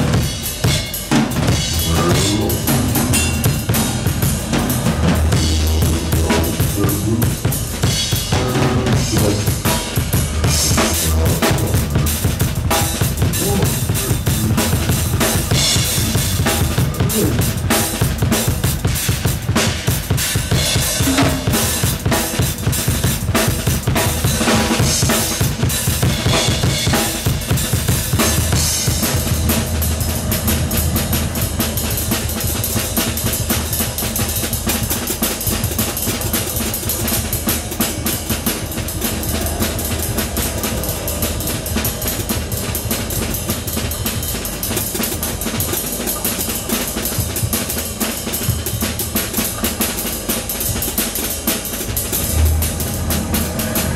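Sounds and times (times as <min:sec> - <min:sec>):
drum solo: 0:00.0 - 0:53.9.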